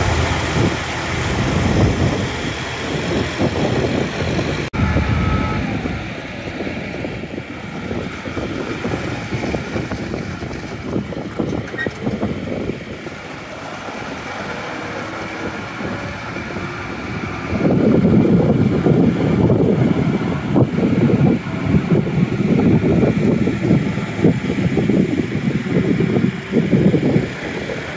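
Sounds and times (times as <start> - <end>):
tractor diesel engine running: 0.0 - 27.9
wind buffeting microphone: 0.0 - 27.9.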